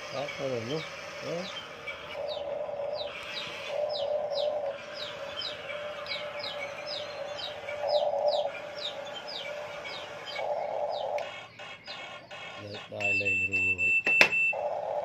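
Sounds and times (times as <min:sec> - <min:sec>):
bird chirping: 0:00.0 - 0:15.0
toy excavator electric motors whining: 0:00.0 - 0:15.0.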